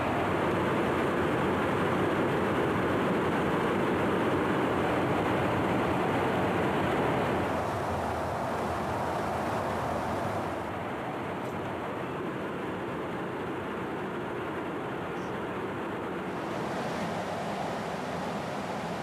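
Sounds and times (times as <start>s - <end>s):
aircraft rushing noise in flight: 0.0s - 19.0s.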